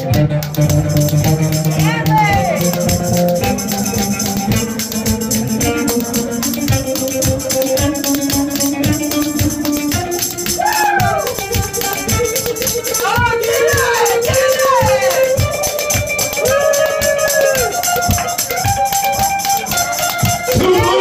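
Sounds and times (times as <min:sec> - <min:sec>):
live acoustic music: 0:00.0 - 0:21.0
spoons clicking rhythmically: 0:00.0 - 0:21.0.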